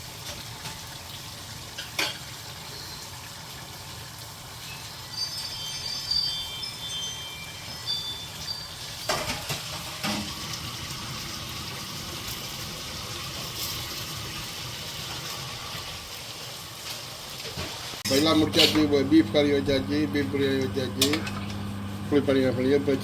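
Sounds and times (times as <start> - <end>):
food sizzling in a pan: 0.0 - 19.4.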